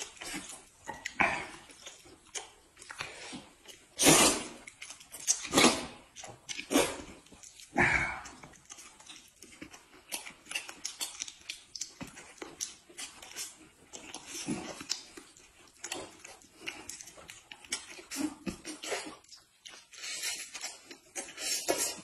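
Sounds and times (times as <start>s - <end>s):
people chewing with mouth smacks: 0.0s - 22.0s.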